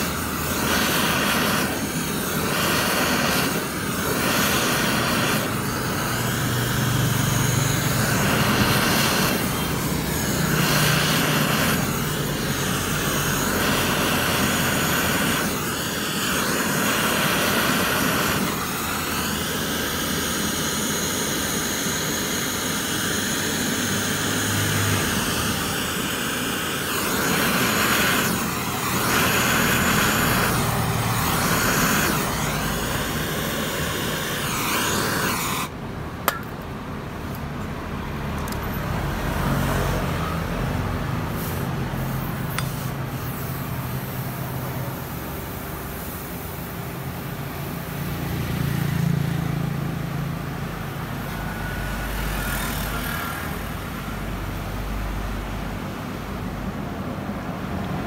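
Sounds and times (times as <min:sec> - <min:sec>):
gas torch flame rushing: 0:00.0 - 0:58.0.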